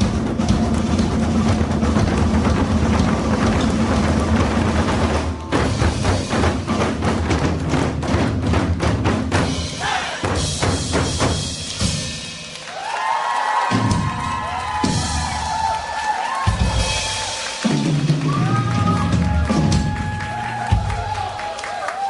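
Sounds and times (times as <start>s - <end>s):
bass: 0.0s - 12.6s, 13.7s - 21.8s
rapid drumming: 0.0s - 21.9s.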